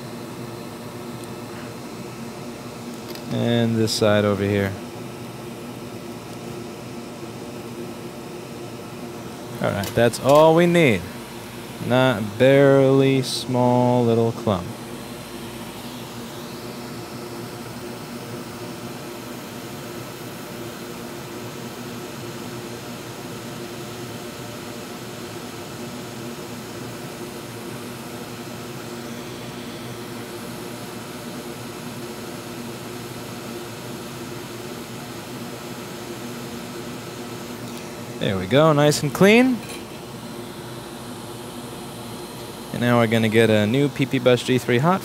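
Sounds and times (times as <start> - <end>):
fan whooshing: 0.0 - 23.0, 24.0 - 45.0.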